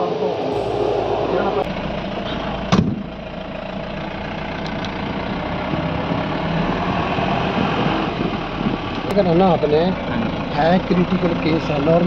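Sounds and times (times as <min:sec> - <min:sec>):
road noise: 0:00.0 - 0:12.0
vehicle engine running: 0:00.3 - 0:12.0.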